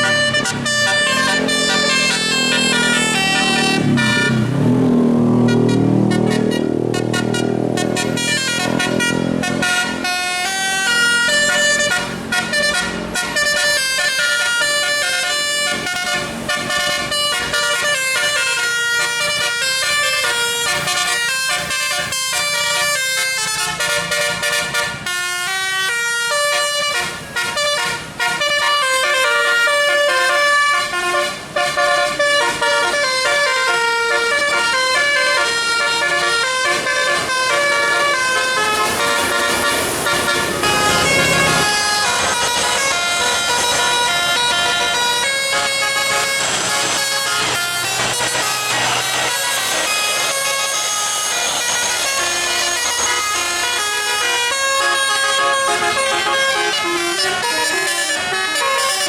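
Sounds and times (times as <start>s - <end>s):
musical bus air horn: 0.0s - 59.0s.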